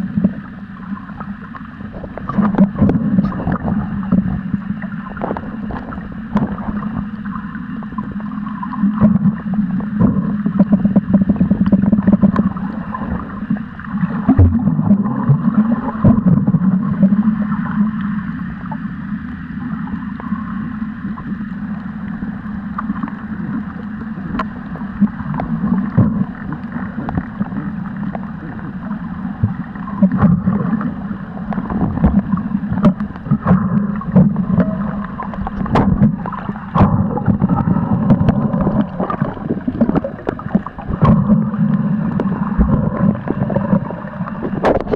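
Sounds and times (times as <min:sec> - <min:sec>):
muffled underwater water rush: 0:00.0 - 0:44.9.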